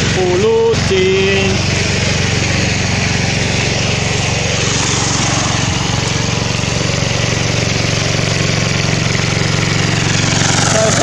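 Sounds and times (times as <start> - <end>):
hand tractor engine running: 1.6 - 11.0.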